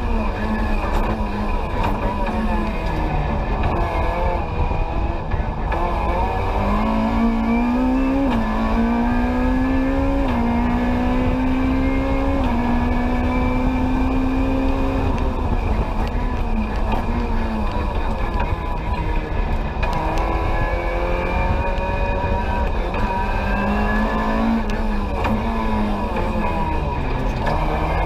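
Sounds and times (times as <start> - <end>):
car engine accelerating through gears: 0.0 - 28.0.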